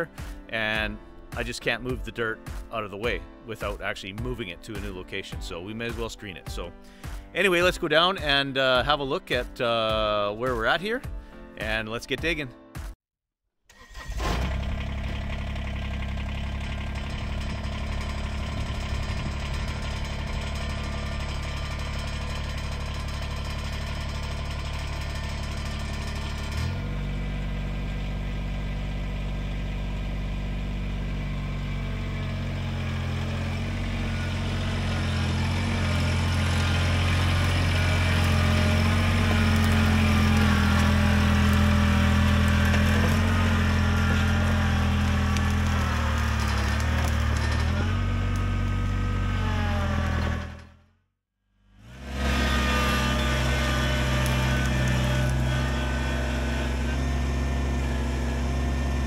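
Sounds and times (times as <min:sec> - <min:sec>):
tractor diesel engine running: 0:00.0 - 0:10.0, 0:13.8 - 0:50.8, 0:51.7 - 0:59.0.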